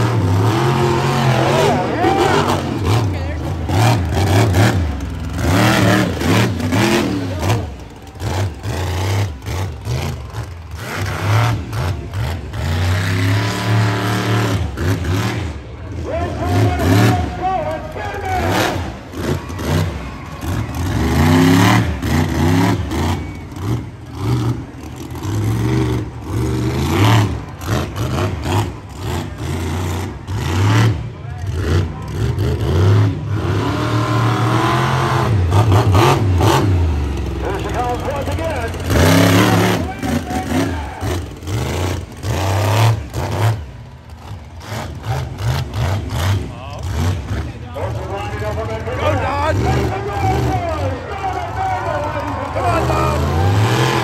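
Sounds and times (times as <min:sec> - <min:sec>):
monster truck engine revving: 0:00.0 - 0:54.0.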